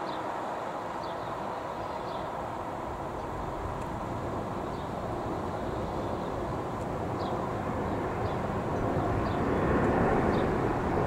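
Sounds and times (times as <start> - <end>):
jet airliner engines rumbling: 0.0 - 11.0.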